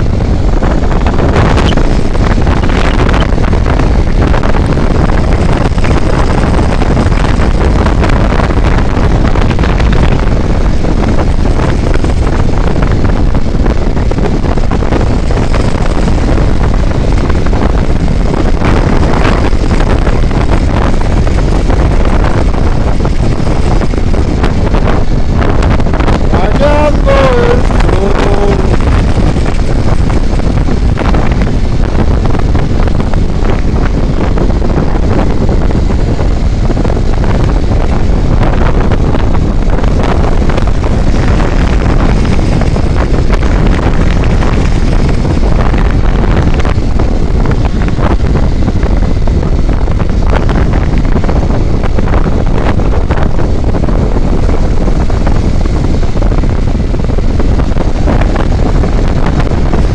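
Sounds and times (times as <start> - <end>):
vehicle running noise: 0.0 - 59.9
wind buffeting microphone: 0.0 - 59.9.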